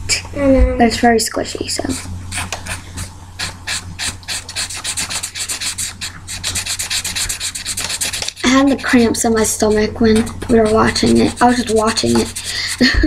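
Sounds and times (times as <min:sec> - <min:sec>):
marker scribbling on paper: 0:01.8 - 0:13.0.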